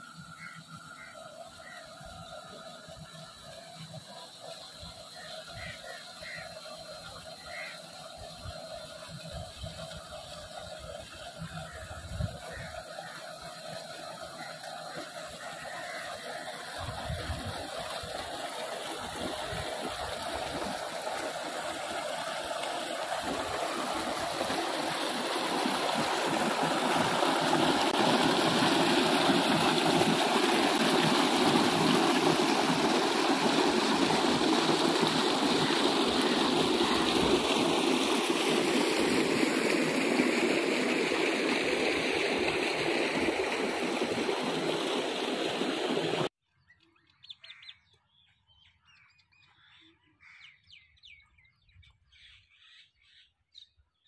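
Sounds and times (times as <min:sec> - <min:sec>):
water gushing into a tank: 0:00.0 - 0:46.3.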